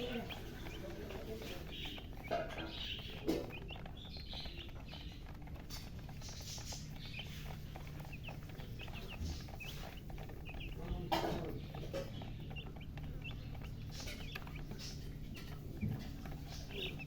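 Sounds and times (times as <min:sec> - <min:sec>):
baby chicks peeping: 0:00.0 - 0:17.0
steady low hum: 0:00.0 - 0:17.0.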